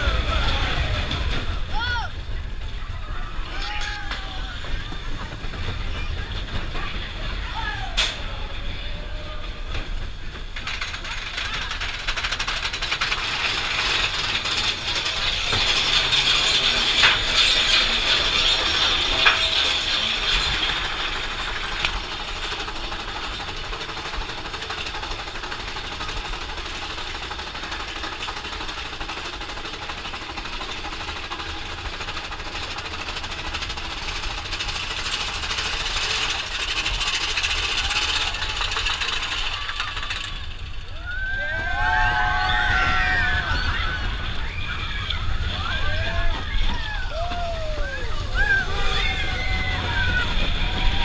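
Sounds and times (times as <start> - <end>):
roller coaster rattling on chain lift: 0.0 - 51.0.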